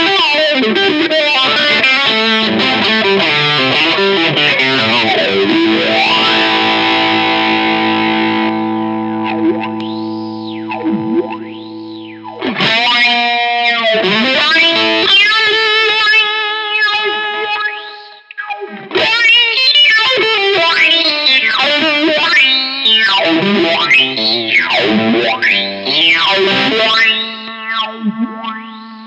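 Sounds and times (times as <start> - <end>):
electric guitar with wah filter: 0.0 - 29.0.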